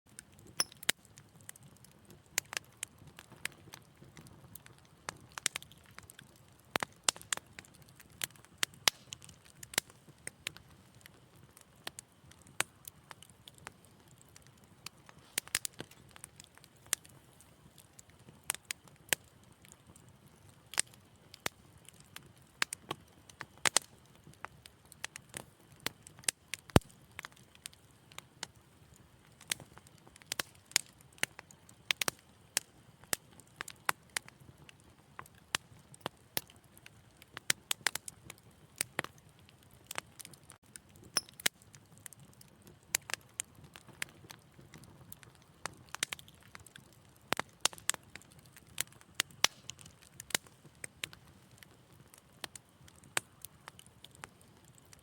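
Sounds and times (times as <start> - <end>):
low hiss of burning: 0.1 - 55.0
wood fire crackling and popping: 0.1 - 55.0.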